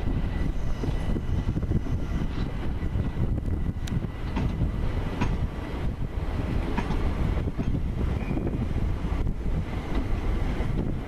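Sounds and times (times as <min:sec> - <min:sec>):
train wheels rumbling on rails: 0:00.0 - 0:11.0
wind buffeting microphone: 0:00.0 - 0:11.0.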